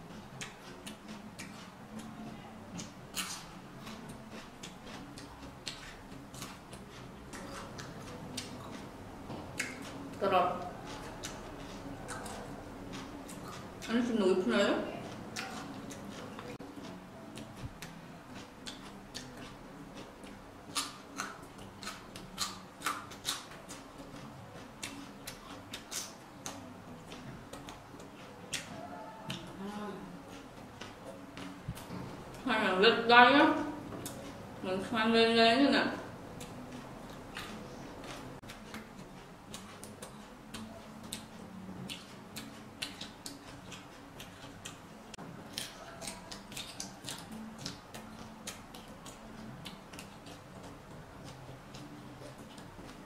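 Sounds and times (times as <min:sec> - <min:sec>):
chewing mouth clicks and smacks: 0:00.0 - 0:14.0, 0:15.1 - 0:32.4, 0:34.0 - 0:34.4, 0:36.4 - 0:53.0.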